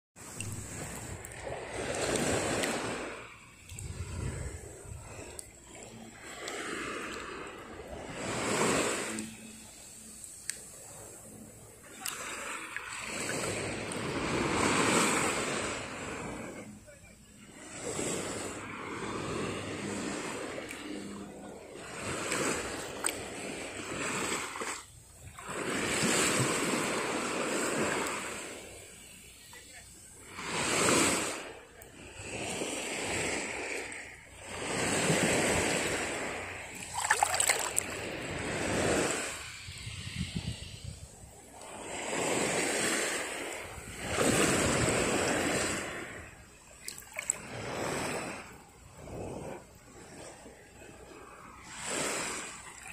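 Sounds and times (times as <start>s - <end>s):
seawater lapping and splashing: 0.2s - 52.9s.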